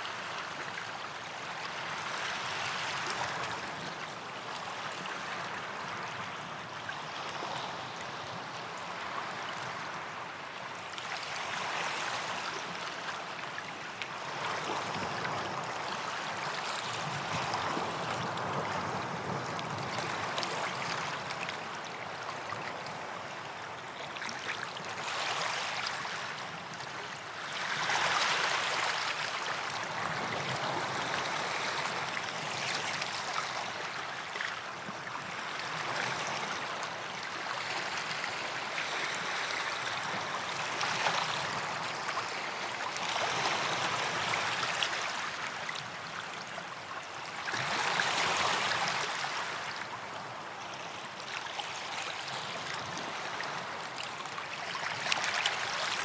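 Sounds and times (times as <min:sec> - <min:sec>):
small waves lapping on beach: 0:00.0 - 0:56.0.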